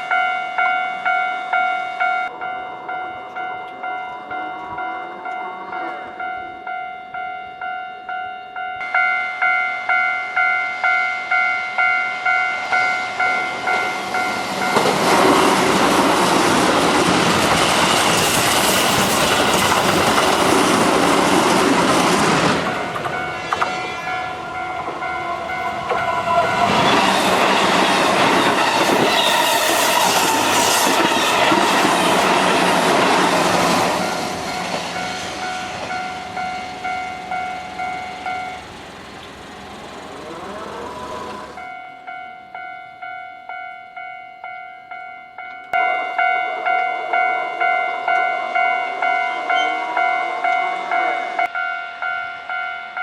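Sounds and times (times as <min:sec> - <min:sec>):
electric trains rumbling: 0:00.0 - 0:53.0
level-crossing bell clanging: 0:00.0 - 0:53.0.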